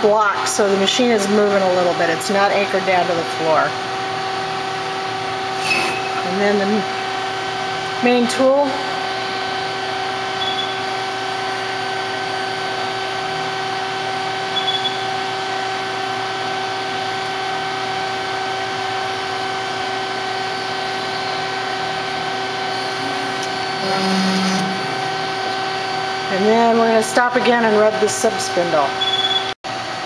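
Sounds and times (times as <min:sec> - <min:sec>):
lathe machine hum: 0:03.0 - 0:28.6.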